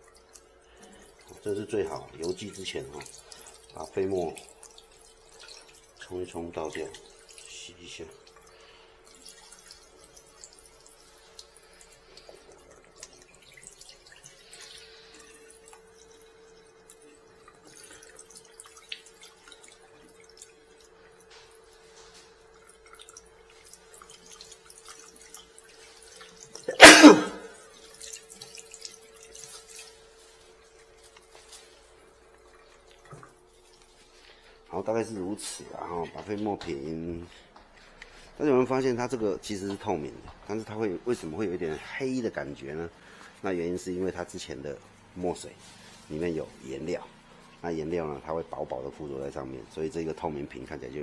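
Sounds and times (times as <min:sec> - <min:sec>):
tap water running: 0:00.0 - 0:51.0.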